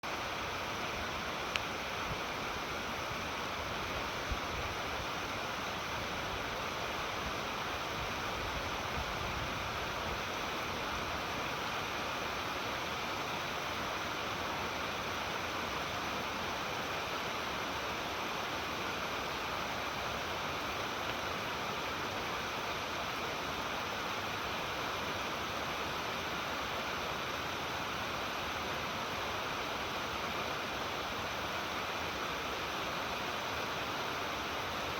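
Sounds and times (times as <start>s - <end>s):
waterfall cascading over rocks: 0.0s - 34.9s.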